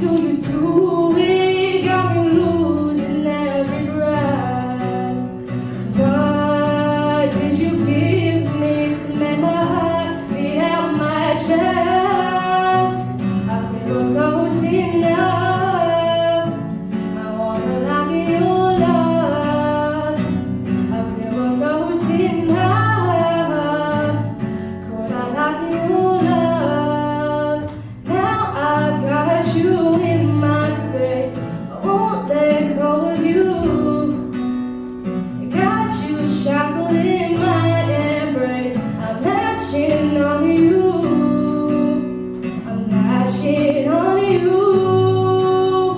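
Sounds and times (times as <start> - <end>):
acoustic guitar: 0.0 - 45.9
woman singing: 0.0 - 45.9.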